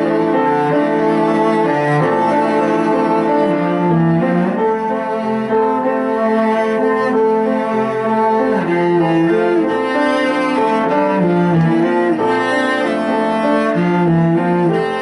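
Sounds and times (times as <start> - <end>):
bowed string instrument melody: 0.0 - 15.0.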